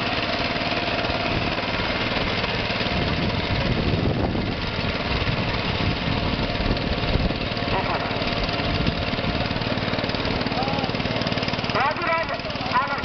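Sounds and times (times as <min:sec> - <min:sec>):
power tiller engine running: 0:00.0 - 0:13.0.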